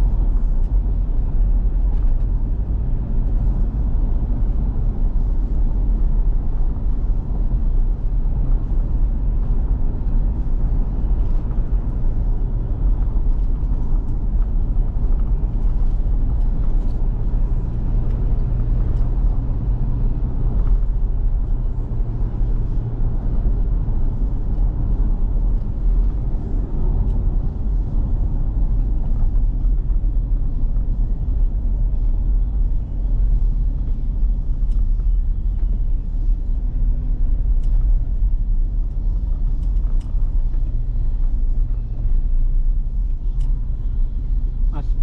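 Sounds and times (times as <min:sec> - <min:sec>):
road and engine rumble inside car: 0:00.0 - 0:45.0.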